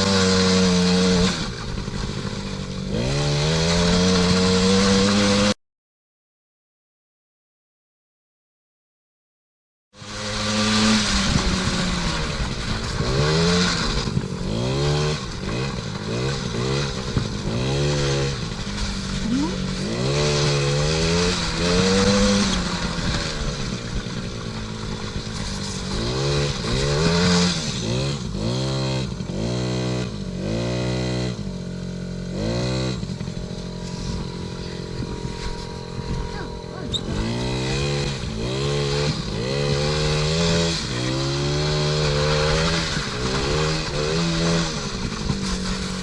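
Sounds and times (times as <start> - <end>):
two-stroke engine revving: 0.0 - 5.6, 10.0 - 46.0.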